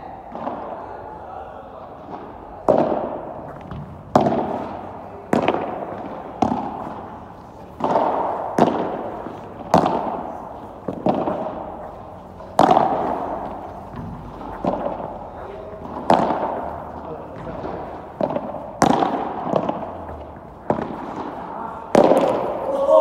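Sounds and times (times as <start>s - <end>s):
ball struck by rackets: 0.3s - 0.8s, 1.9s - 22.7s
ball bouncing on court: 2.0s - 22.7s.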